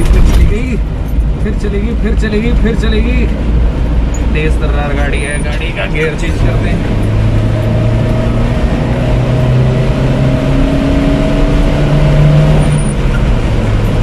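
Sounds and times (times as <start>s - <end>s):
car engine accelerating: 0.0s - 14.0s
road and wind noise: 0.0s - 14.0s.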